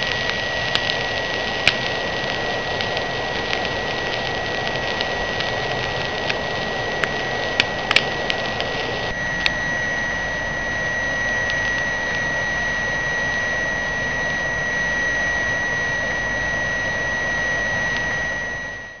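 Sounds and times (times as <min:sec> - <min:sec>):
stove fan whooshing and whining: 0:00.0 - 0:19.0.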